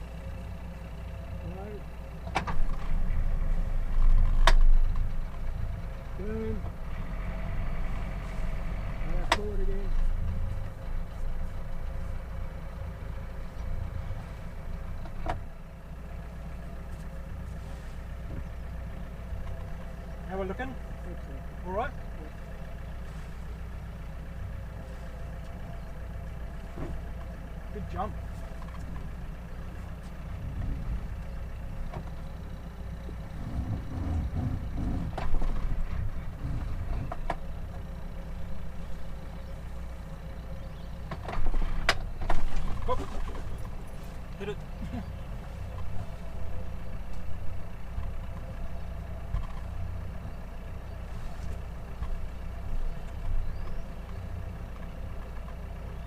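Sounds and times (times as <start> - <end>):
boat engine rumbling: 0.0 - 56.0.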